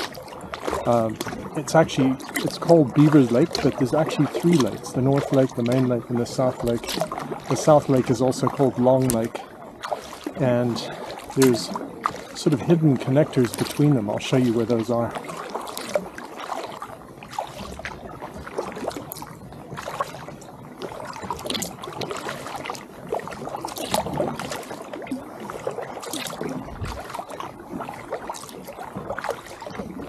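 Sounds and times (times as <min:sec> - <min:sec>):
paddle strokes in water: 0:00.0 - 0:30.0
water dripping off paddle: 0:00.0 - 0:30.0.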